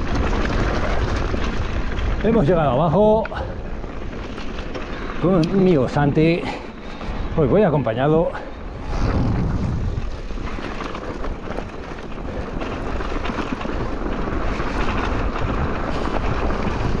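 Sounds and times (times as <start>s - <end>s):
bike rattles and clicks: 0.0s - 17.0s
wind rumbling on microphone: 0.0s - 17.0s.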